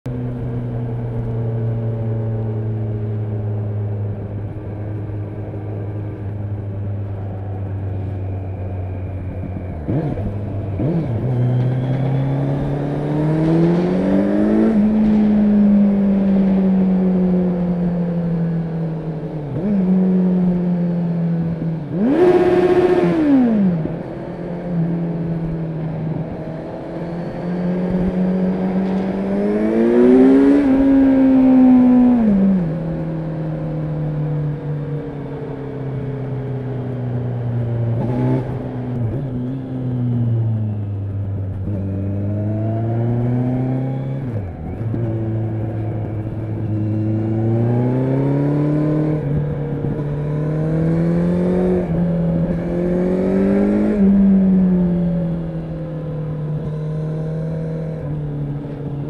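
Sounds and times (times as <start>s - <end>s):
motorcycle engine revving: 0.1s - 59.0s.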